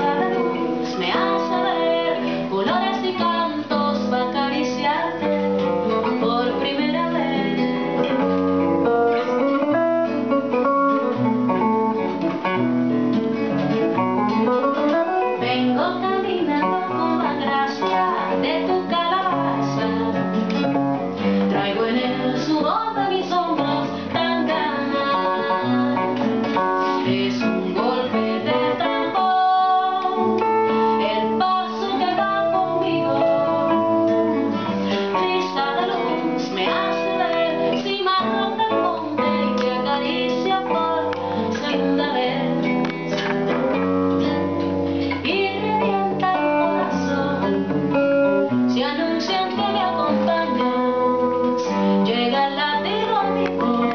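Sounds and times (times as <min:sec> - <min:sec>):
woman singing: 0:00.0 - 0:11.3, 0:11.9 - 0:53.9
acoustic guitar strumming: 0:00.0 - 0:53.9
electric guitar through amplifier: 0:00.0 - 0:53.9.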